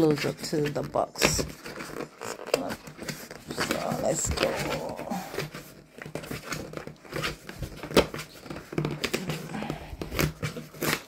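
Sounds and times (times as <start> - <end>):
cardboard tearing and scraping: 0.0 - 11.0.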